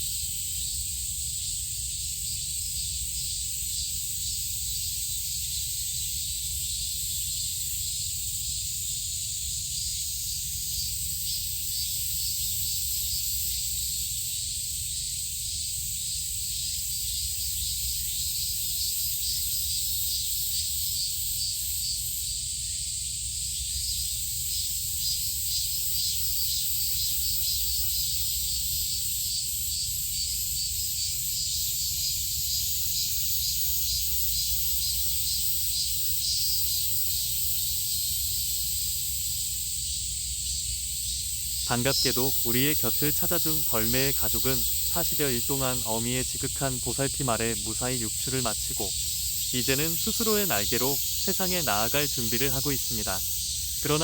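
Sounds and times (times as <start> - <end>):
cicadas droning: 0.0 - 54.0.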